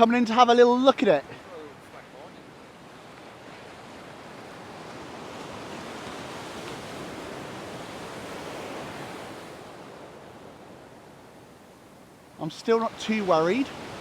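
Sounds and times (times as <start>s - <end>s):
surf breaking on beach: 0.0s - 14.0s.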